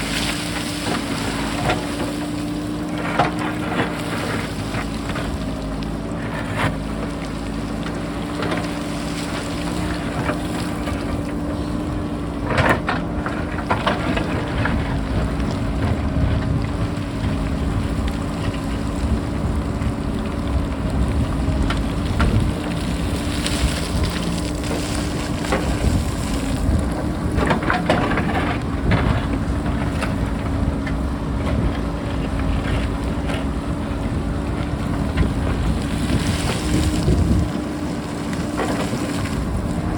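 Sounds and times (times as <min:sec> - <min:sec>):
diesel engine running: 0:00.0 - 0:39.9
wind buffeting microphone: 0:07.7 - 0:39.9.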